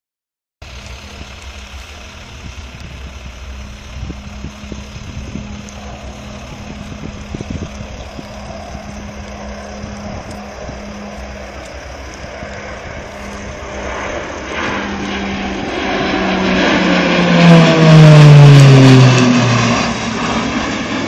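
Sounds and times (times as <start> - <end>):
engine drone: 0.6 - 21.0
wind buffeting microphone: 1.0 - 21.0.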